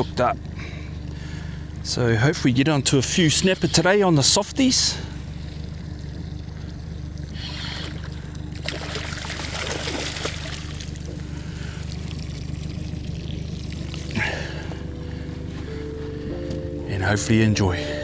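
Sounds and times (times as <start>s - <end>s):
steady low hum: 0.0s - 18.0s
water splashing and trickling: 1.1s - 18.0s.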